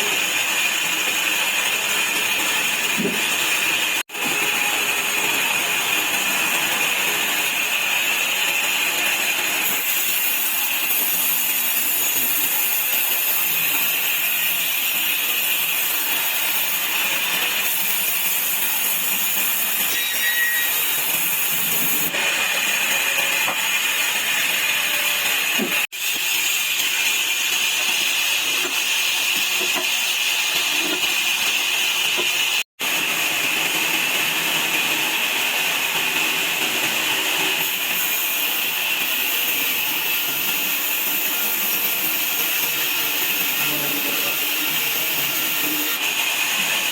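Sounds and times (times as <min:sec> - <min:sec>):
saw cutting wood: 0:00.0 - 0:46.9.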